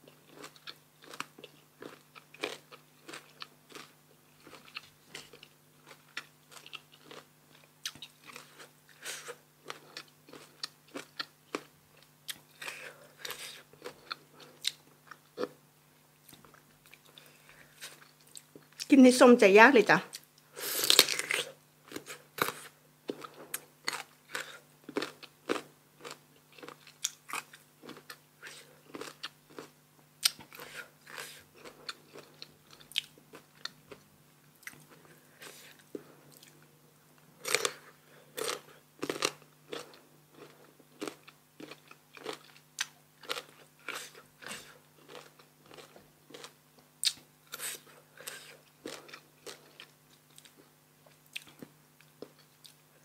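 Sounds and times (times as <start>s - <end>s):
crunchy chewing of mango: 0.0s - 15.6s, 20.1s - 36.7s, 37.4s - 52.9s
faint low hum: 0.0s - 53.0s.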